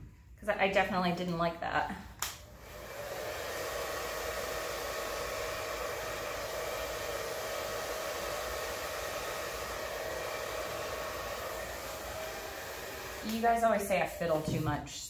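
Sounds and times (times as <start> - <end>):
hair dryer blowing air: 2.2 - 15.0.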